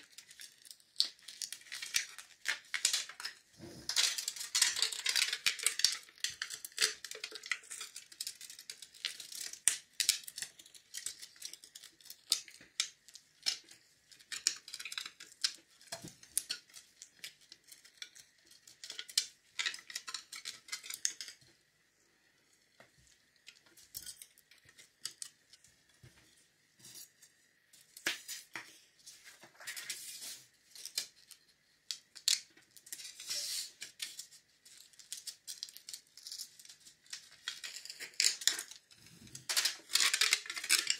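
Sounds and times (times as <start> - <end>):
wire twisting and crinkling: 0.0 - 40.9.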